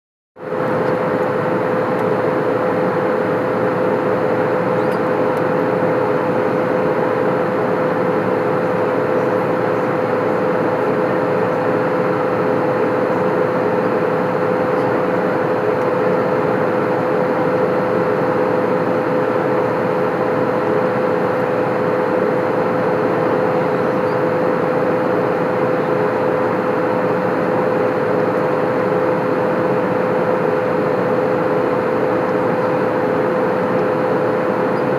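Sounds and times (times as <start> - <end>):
airplane cabin roar: 0.4 - 34.9.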